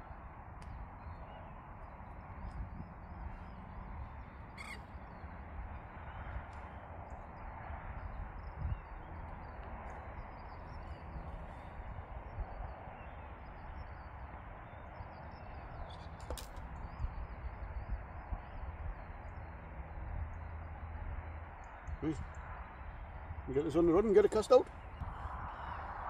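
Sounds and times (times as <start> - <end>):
distant birdsong chirping: 0.0 - 26.0.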